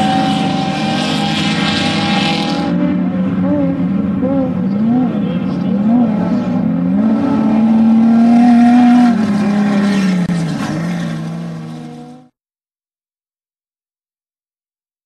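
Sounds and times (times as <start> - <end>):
race vehicle engine revving: 0.0 - 12.4.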